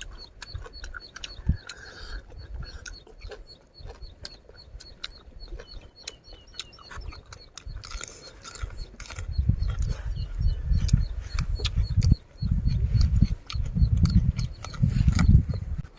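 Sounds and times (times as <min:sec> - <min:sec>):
small high chirp: 0:00.0 - 0:15.8
chewing and wet mouth clicks: 0:00.0 - 0:15.9
crunchy chewing: 0:00.0 - 0:15.9.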